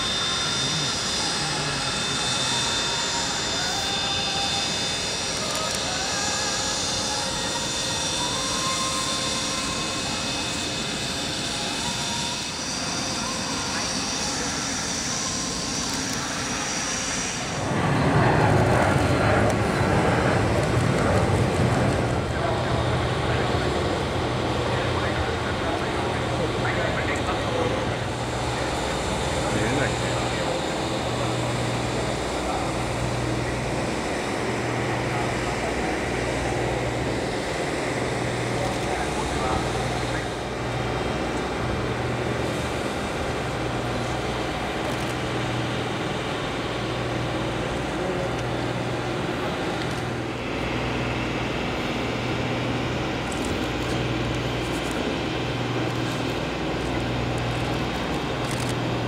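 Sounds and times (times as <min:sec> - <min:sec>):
jet engines rushing with whine: 0:00.0 - 0:59.0.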